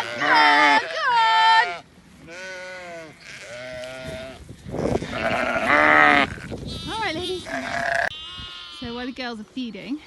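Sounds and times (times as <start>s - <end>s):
sheep bleating: 0.0s - 9.2s.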